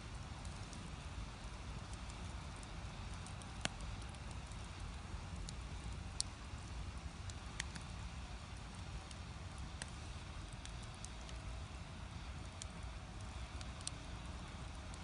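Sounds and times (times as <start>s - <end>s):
fire rushing: 0.0s - 15.0s
firewood crackling: 0.0s - 15.0s.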